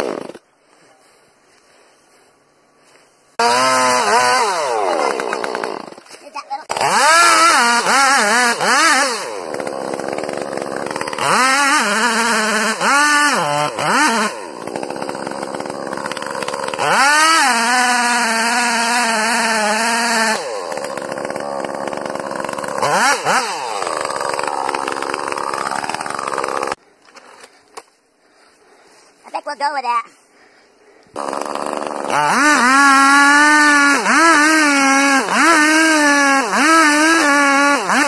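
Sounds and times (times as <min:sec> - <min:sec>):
chainsaw cutting tree trunk: 0:00.0 - 0:00.4, 0:03.4 - 0:26.8, 0:31.2 - 0:38.0.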